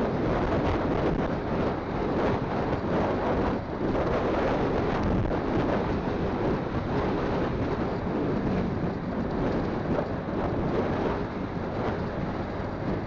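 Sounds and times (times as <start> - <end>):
road noise: 0.0 - 13.0
wind rush on microphone: 0.0 - 13.0.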